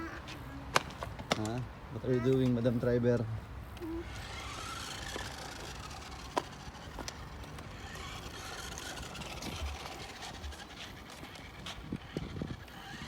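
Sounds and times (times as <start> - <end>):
toy car motor and wheels: 0.0 - 13.0.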